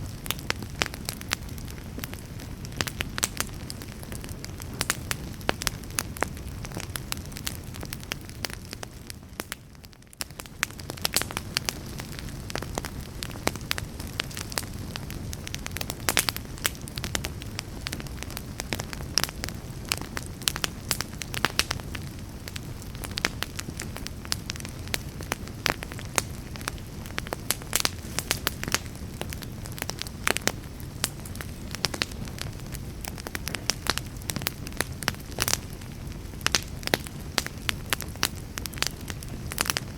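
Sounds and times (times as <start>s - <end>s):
wood fire burning: 0.0s - 39.9s.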